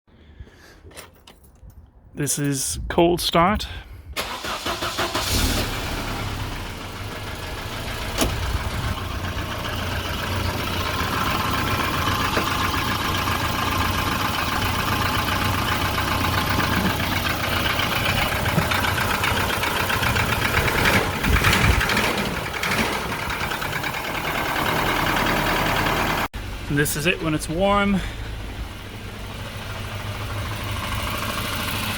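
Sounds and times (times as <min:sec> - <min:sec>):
car engine cranking and idling: 0:03.6 - 0:31.9.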